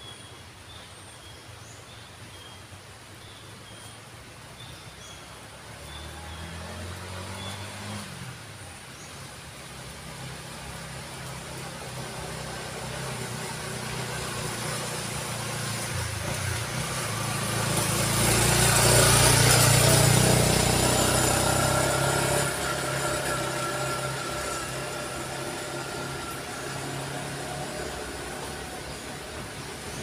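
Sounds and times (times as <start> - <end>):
motorcycle engine climbing uphill: 5.6 - 30.0.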